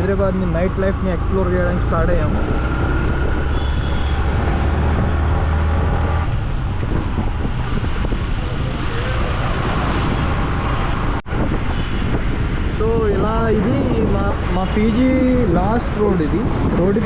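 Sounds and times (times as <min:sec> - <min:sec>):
motorcycle engine hum: 0:00.0 - 0:15.4
road and wind noise: 0:00.0 - 0:17.0
traffic noise: 0:00.0 - 0:17.0.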